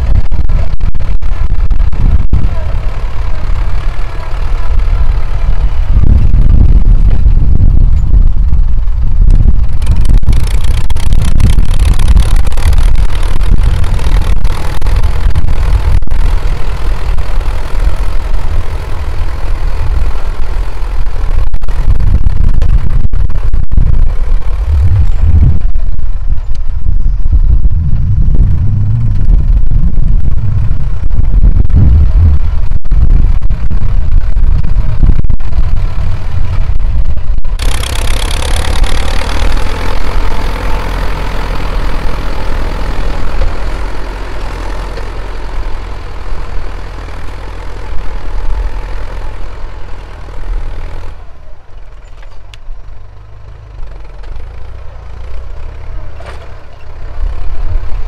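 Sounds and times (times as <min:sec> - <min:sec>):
tractor diesel engine running hard: 0:00.0 - 0:58.0.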